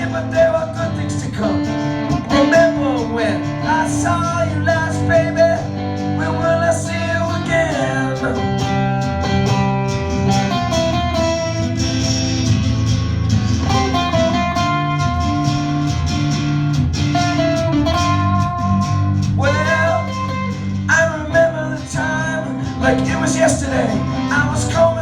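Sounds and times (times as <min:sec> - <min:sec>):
guitars plucking and strumming: 0:00.0 - 0:25.0
held melody line: 0:00.0 - 0:25.0.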